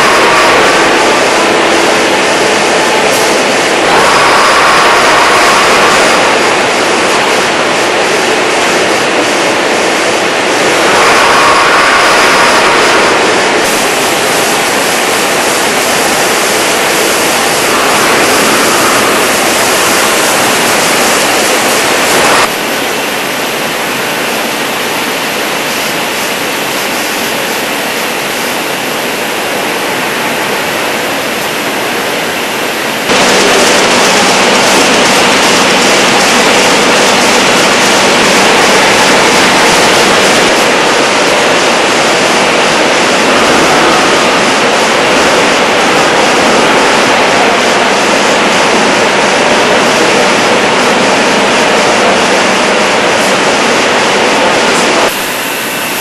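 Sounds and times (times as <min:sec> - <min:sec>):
factory machinery hum: 0:00.0 - 0:56.0.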